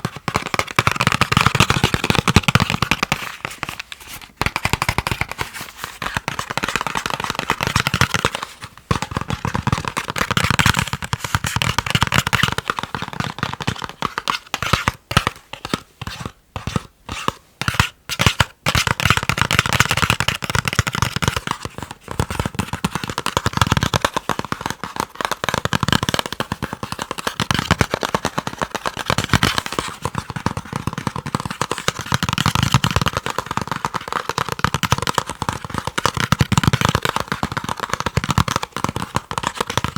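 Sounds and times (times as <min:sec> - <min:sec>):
rapid tapping on chocolate: 0:00.0 - 0:39.9.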